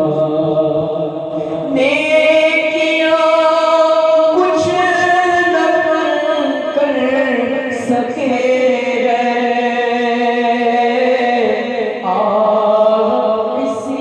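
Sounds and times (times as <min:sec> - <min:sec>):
unaccompanied devotional singing: 0:00.0 - 0:14.0.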